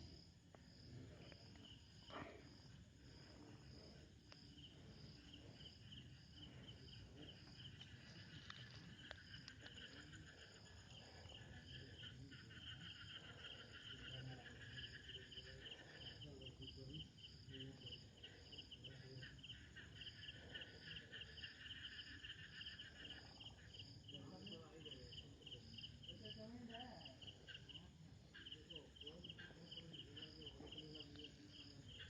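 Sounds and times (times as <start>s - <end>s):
continuous insect trill: 0.0s - 32.0s
crickets chirping: 0.0s - 32.0s.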